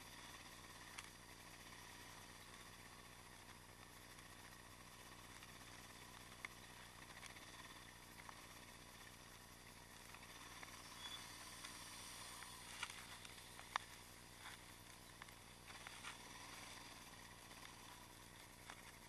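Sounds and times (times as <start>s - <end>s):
muffled motorcycle running: 0.0s - 19.0s.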